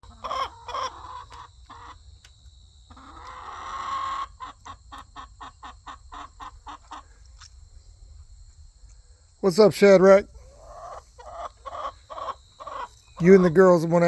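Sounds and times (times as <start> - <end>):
chickens clucking: 0.0 - 8.4, 9.4 - 14.0.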